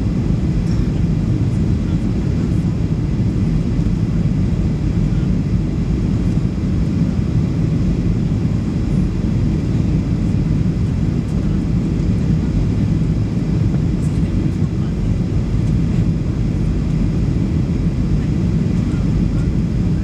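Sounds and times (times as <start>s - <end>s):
airliner cabin engine noise: 0.0s - 20.0s.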